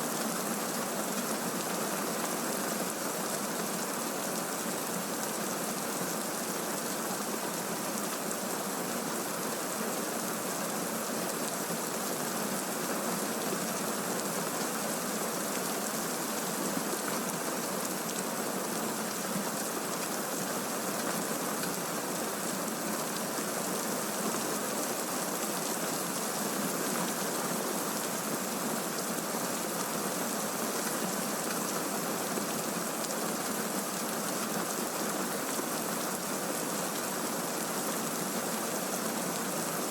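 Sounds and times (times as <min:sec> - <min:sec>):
heavy rain: 0:00.1 - 0:39.9.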